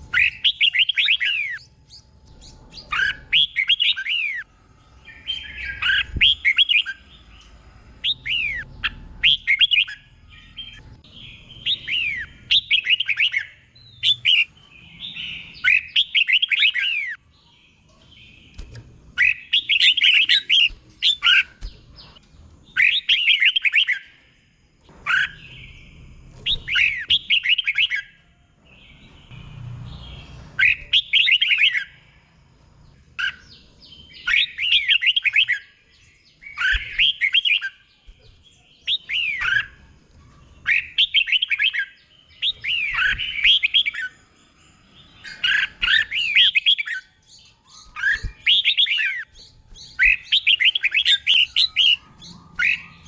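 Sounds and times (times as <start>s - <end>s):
bulbul bird singing: 0.0s - 53.0s.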